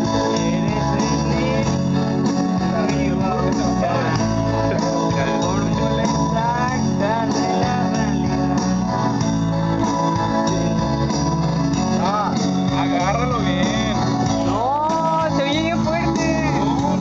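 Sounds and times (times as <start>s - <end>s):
person singing: 0.0s - 10.9s, 11.7s - 17.0s
karaoke backing track with guitar: 0.0s - 17.0s.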